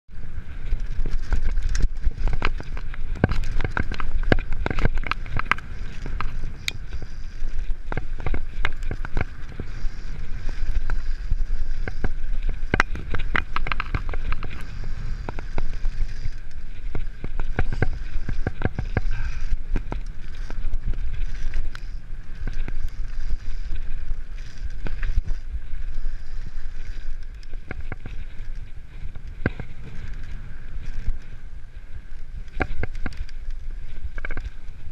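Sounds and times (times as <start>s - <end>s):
bike rattling over bumps: 0.1s - 34.9s
wind on microphone: 0.1s - 34.9s.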